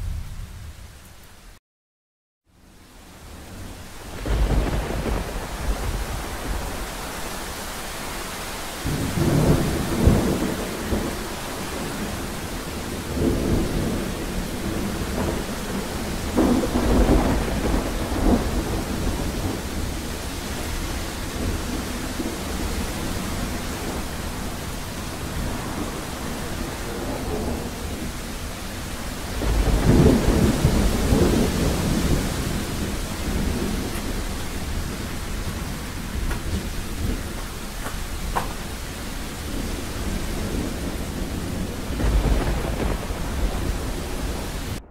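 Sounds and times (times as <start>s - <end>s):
thunder rumbling: 0.0s - 1.1s, 3.3s - 44.9s
heavy rain: 2.5s - 44.9s.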